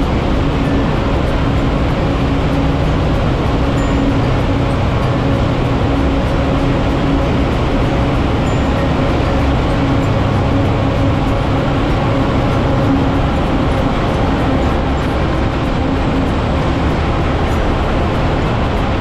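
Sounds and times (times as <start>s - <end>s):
motorbike engine rumble: 0.0s - 19.0s
tyres on wet road: 0.0s - 19.0s
wind on microphone: 0.0s - 19.0s.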